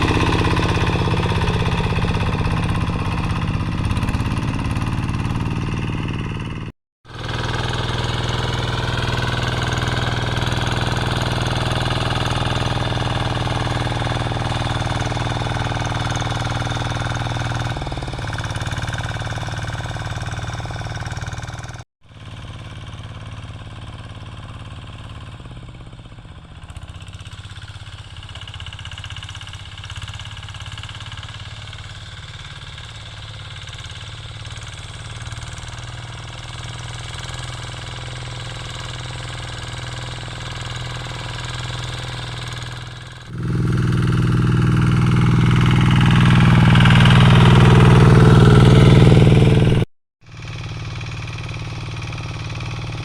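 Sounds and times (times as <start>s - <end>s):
hand tractor diesel engine running: 0.0s - 21.8s, 26.7s - 49.9s, 50.5s - 53.0s.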